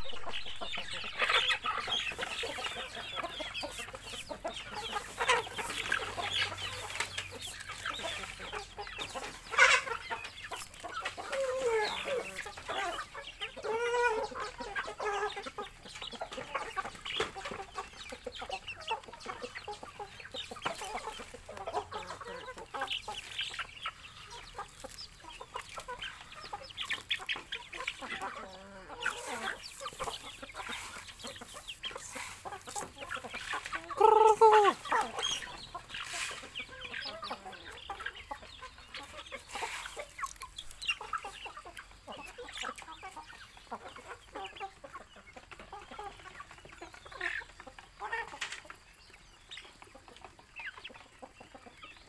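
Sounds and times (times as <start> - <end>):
high chicken calls: 0.0 - 44.8
chickens clucking: 0.0 - 52.0.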